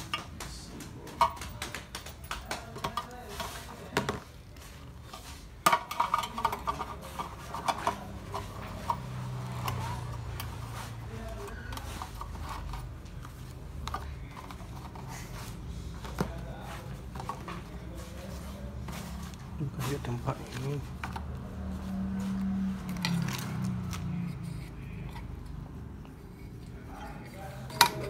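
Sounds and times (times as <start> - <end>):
cardboard and plastic packaging rustling: 0.0 - 28.0.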